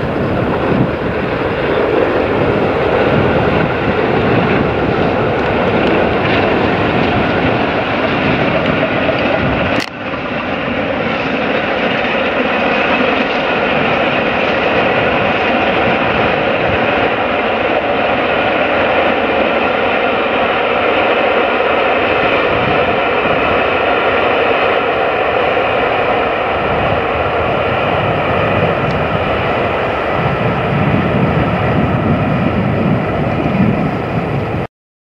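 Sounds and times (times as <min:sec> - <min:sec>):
deep rumble: 0:00.0 - 0:34.7
steam locomotive exhaust rushing: 0:00.0 - 0:34.7.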